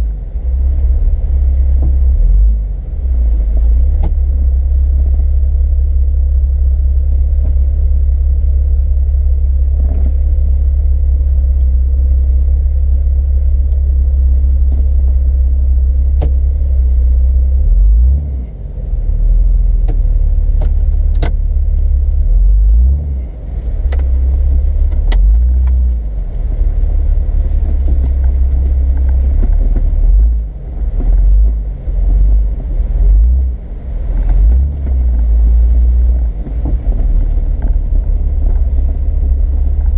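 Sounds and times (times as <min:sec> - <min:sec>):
loud low engine drone: 0:00.0 - 0:39.9.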